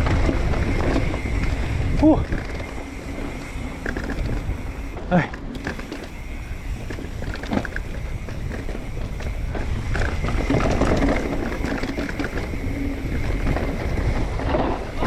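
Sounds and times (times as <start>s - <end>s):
bike rattling clicks: 0.0s - 15.0s
wind on microphone: 0.0s - 15.0s.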